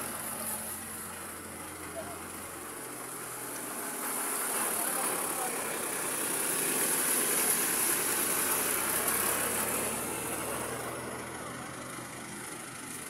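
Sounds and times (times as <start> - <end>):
high tyre hiss: 0.0 - 13.0
vehicle engines on wet road: 0.0 - 13.0.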